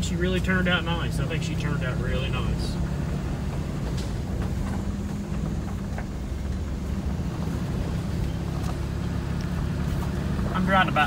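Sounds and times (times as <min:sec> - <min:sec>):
truck rumbling on gravel road: 0:00.0 - 0:11.0.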